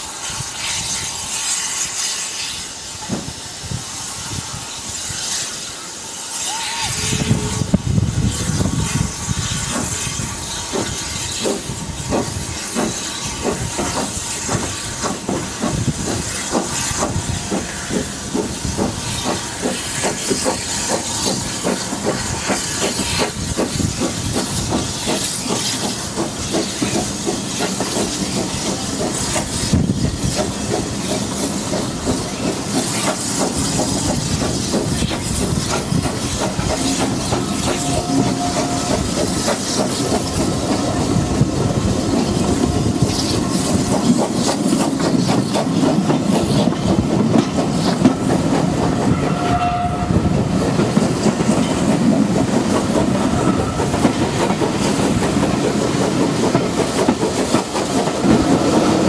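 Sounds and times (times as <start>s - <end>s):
regular beat of locomotive wheels: 0.0s - 59.0s
rushing hiss of train: 0.0s - 59.0s.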